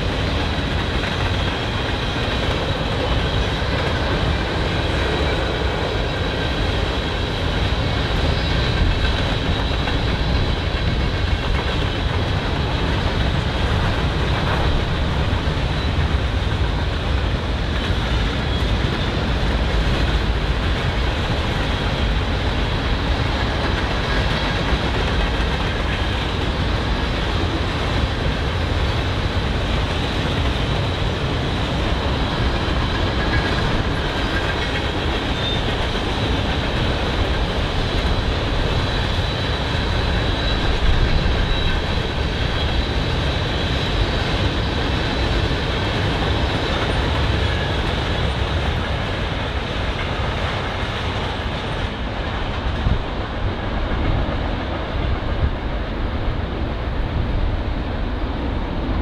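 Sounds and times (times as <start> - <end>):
train wheels rumbling and rattling: 0.0 - 59.0.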